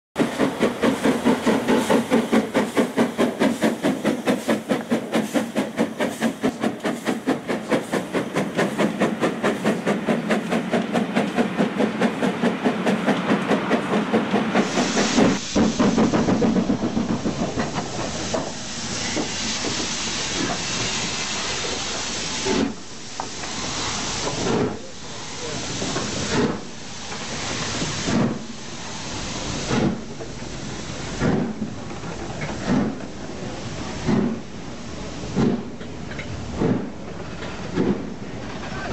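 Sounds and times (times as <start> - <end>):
steam hissing: 0.2 - 38.9
steam locomotive chuffing: 0.2 - 38.9.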